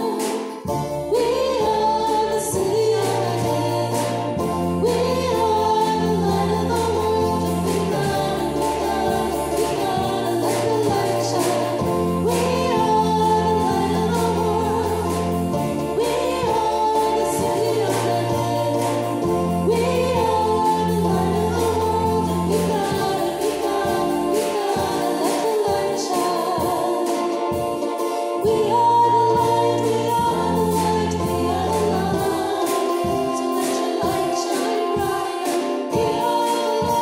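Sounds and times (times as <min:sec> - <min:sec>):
chorus singing: 0:00.0 - 0:37.0
instrumental backing: 0:00.0 - 0:37.0
held bass notes: 0:00.7 - 0:34.3.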